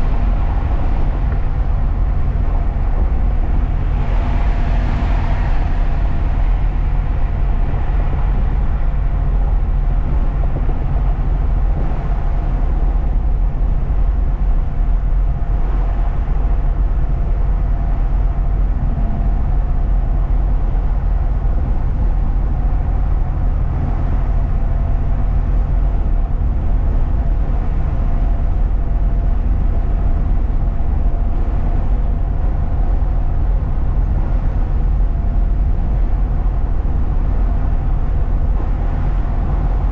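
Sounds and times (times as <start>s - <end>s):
faint steady whine: 0.0s - 39.9s
truck engine and road rumble: 0.0s - 39.9s.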